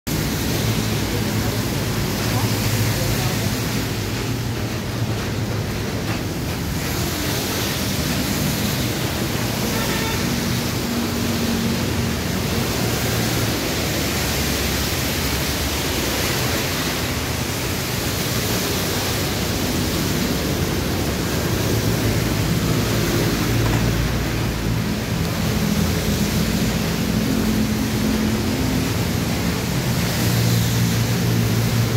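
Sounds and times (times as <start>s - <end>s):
low rumble of road traffic: 0.1s - 31.9s
rain hissing: 0.1s - 31.9s.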